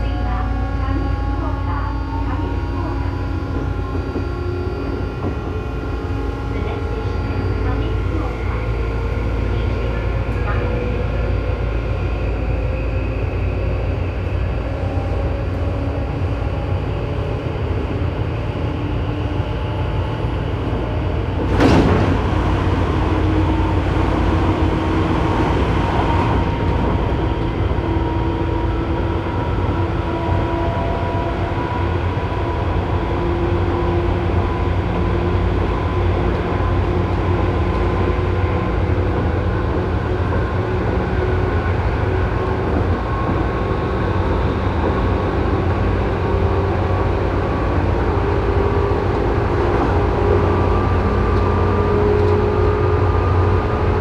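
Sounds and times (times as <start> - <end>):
electric train running rumble: 0.0 - 54.0.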